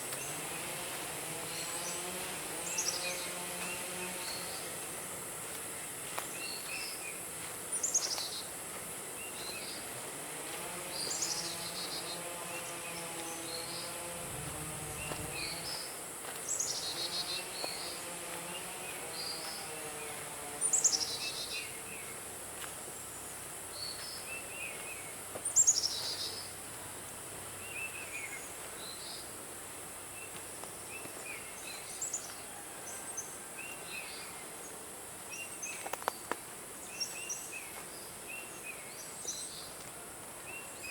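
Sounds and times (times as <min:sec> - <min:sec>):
forest birds chirping: 0:00.0 - 0:40.9.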